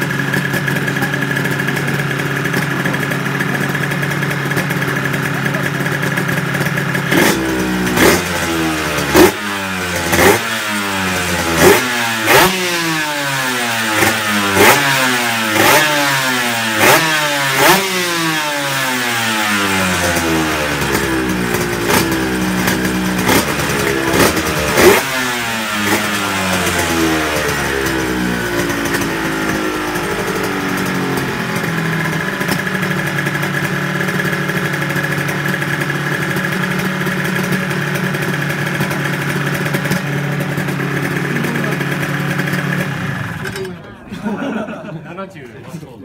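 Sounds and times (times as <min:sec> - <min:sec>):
motorcycle engine revving: 0:00.0 - 0:44.7.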